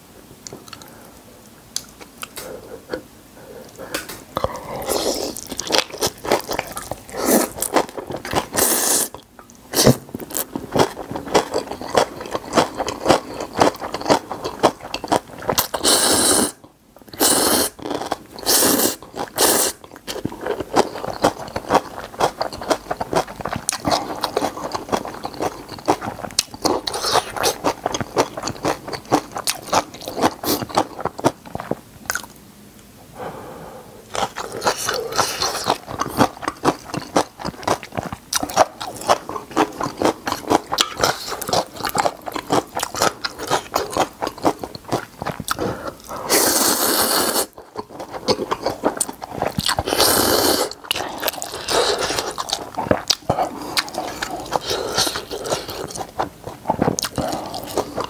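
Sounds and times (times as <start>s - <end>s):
crunching and chewing food: 3.6s - 32.4s, 34.1s - 58.0s.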